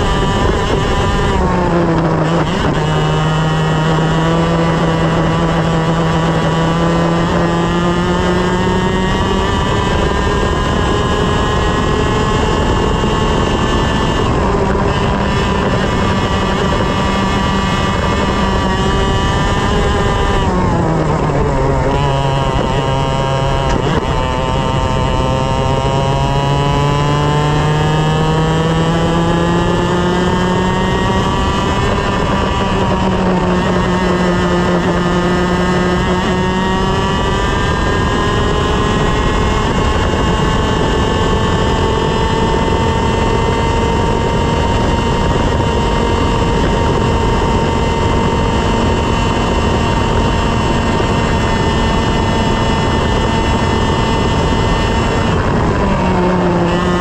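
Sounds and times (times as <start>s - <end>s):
racing kart engine revving: 0.0s - 57.0s.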